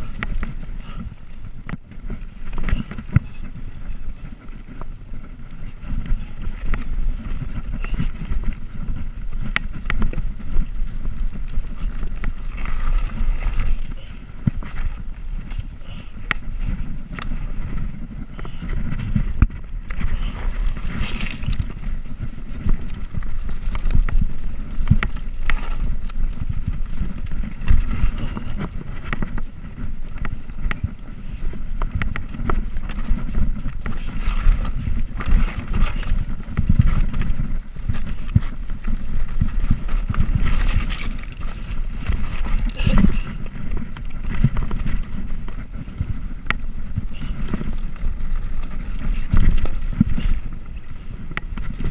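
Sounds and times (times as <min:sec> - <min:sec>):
bicycle clicks and knocks: 0:00.0 - 0:51.9
wind rumbling over microphone: 0:00.0 - 0:51.9.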